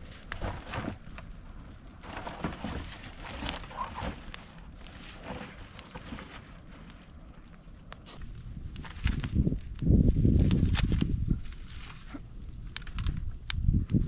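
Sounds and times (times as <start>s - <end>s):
fire crackles and pops: 0.0s - 14.0s
trash pile burning: 0.0s - 14.0s.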